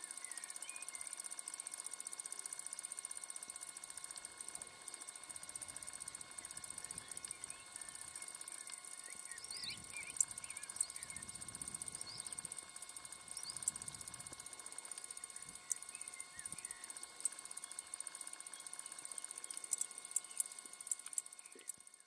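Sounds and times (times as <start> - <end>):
small bird chirping: 0.0 - 1.8, 4.9 - 22.0
bush-cricket stridulating: 0.0 - 22.0.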